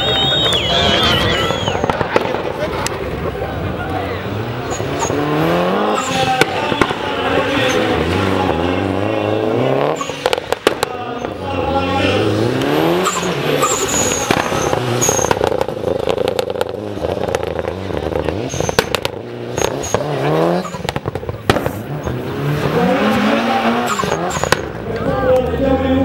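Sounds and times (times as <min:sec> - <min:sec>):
sharp exhaust cracks: 0:00.0 - 0:25.6
car engine revving high: 0:00.0 - 0:26.0.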